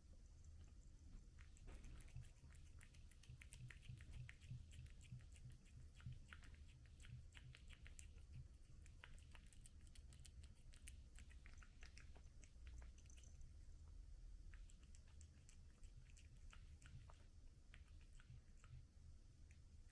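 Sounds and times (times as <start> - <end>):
cat chewing and licking: 0.0 - 19.9.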